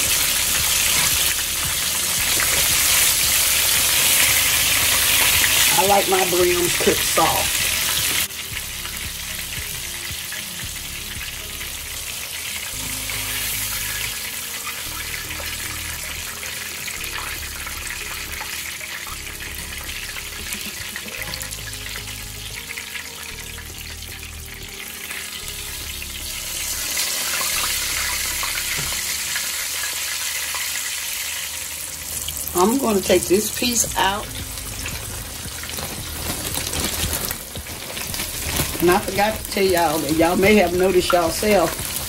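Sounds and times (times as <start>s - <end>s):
fish deep-frying in oil: 0.0s - 42.0s.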